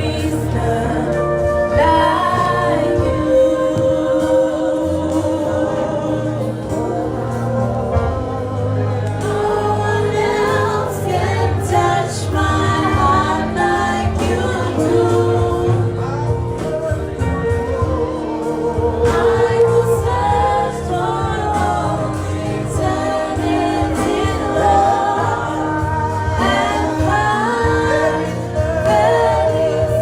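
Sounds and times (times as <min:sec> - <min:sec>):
instrumental backing: 0:00.0 - 0:30.0
voices singing held notes: 0:00.0 - 0:30.0.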